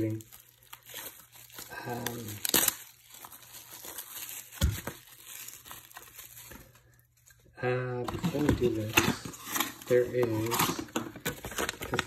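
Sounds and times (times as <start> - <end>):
plastic shrink-wrap crinkling: 0.0 - 12.0.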